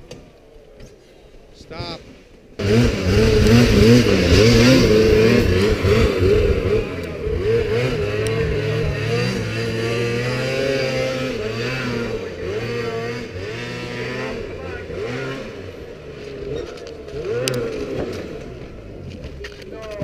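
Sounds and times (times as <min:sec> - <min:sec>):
snowmobile engine revving: 0:02.6 - 0:20.0.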